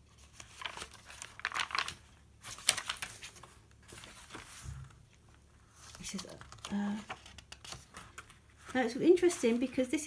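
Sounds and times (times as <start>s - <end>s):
paper pages rustling and crinkling: 0.0s - 10.0s.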